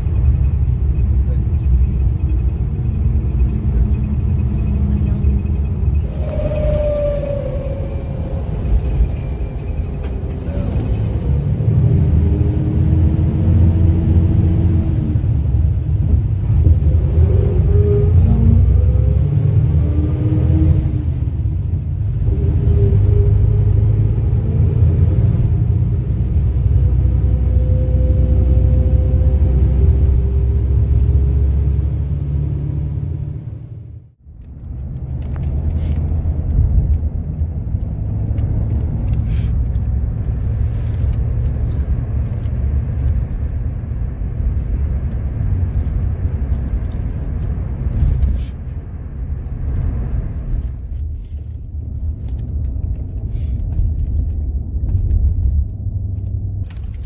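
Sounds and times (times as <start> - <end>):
vehicle low rumble: 0.0 - 57.0.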